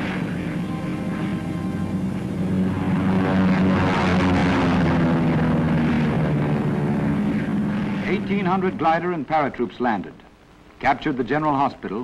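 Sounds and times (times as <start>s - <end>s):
propeller aircraft engines droning: 0.0s - 10.8s.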